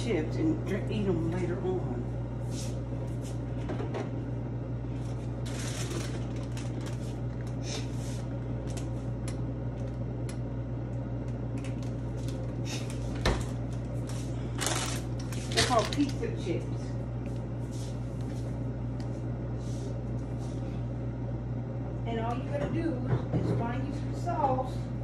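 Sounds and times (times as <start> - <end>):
air fryer humming: 0.0 - 25.0.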